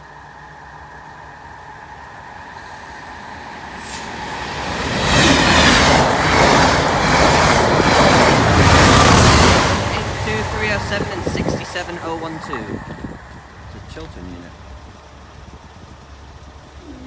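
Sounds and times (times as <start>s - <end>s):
passenger train passing: 0.0s - 16.9s.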